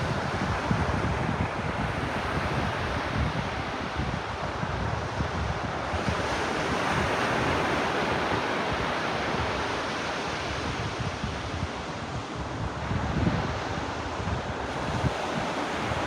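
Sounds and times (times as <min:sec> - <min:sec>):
ocean waves washing onto beach: 0:00.0 - 0:16.0
wind buffeting microphone: 0:00.0 - 0:16.0.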